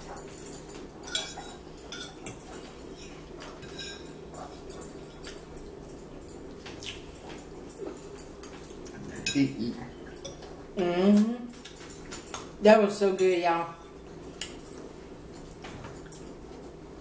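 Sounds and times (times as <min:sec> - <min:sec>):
forks clinking on plates: 0:00.0 - 0:16.8
steady low hum: 0:00.0 - 0:17.0.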